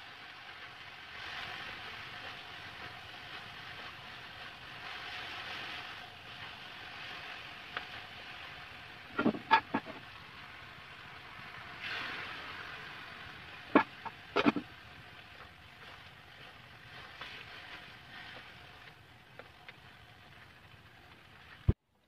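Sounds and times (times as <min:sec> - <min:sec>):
greens sizzling in oil: 0:00.0 - 0:21.8.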